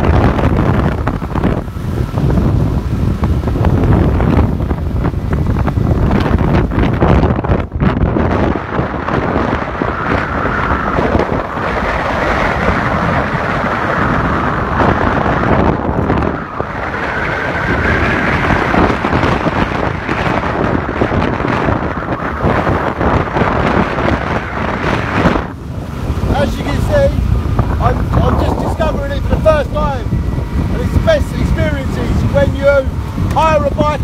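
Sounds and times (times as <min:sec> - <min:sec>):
road noise: 0:00.0 - 0:34.0
wind buffeting microphone: 0:00.0 - 0:34.0.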